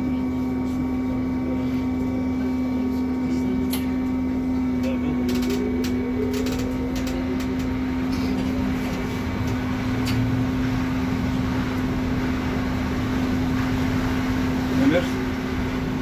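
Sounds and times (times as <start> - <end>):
rumbling running noise: 0.0 - 16.0
trolleybus electrical hum: 0.0 - 16.0.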